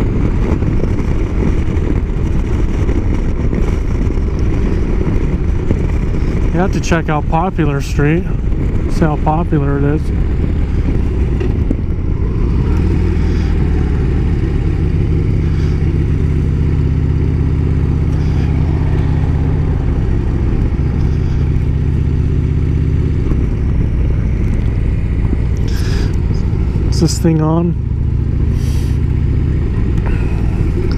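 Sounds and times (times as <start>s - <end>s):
motorcycle engine running: 0.0s - 30.9s
road and wind noise: 0.0s - 30.9s.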